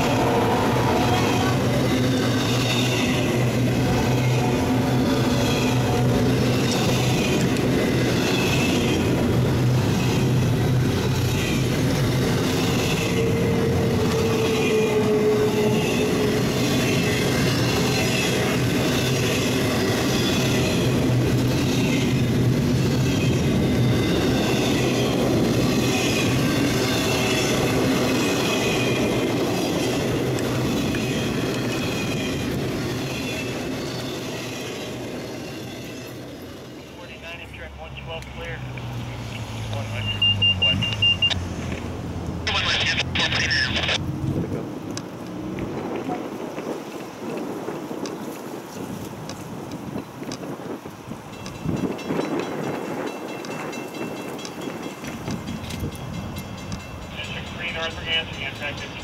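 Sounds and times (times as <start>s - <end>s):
steel wheels rumbling on rail: 0.0s - 37.0s, 44.1s - 59.0s.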